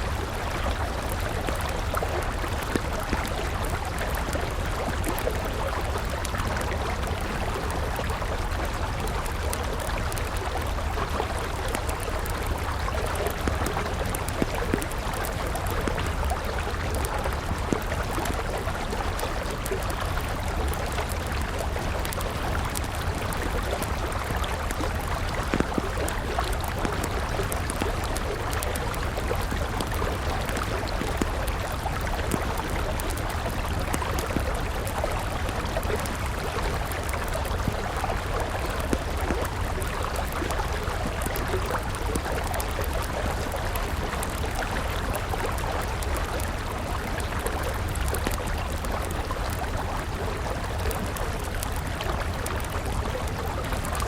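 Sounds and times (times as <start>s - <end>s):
campfire crackling: 0.0s - 54.0s
river water flowing: 0.0s - 54.0s.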